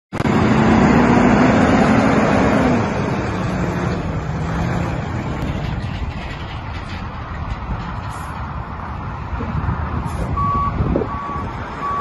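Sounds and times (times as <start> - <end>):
diesel truck engine driving by: 0.2 - 12.0.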